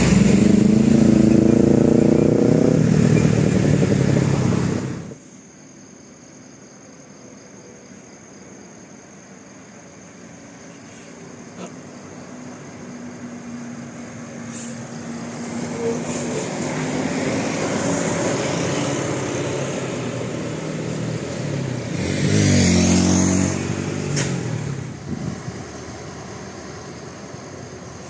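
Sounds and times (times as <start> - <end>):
bus driving past: 0.0 - 5.2, 9.2 - 28.0.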